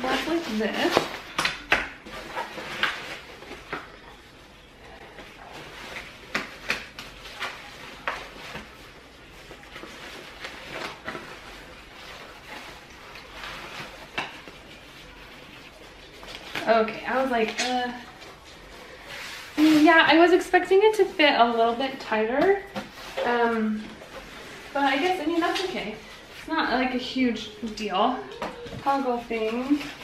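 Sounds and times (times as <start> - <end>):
fabric rustling: 4.9 - 30.0.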